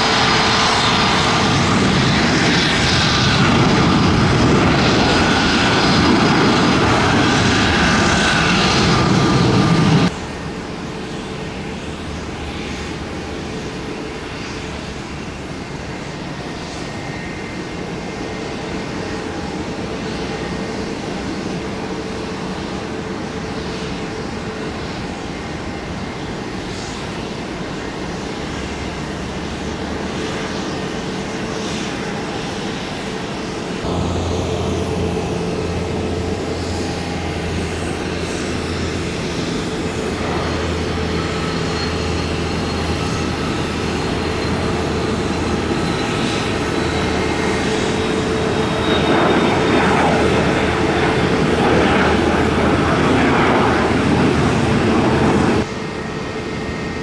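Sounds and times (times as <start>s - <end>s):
jet engines roaring at takeoff: 0.0s - 57.0s
jet landing and rolling out: 0.0s - 57.0s.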